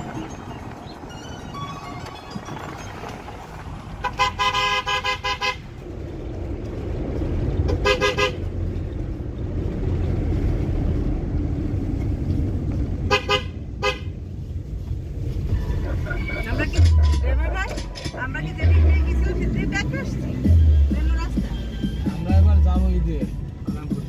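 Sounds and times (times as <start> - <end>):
road and wind rumble: 0.0 - 24.0.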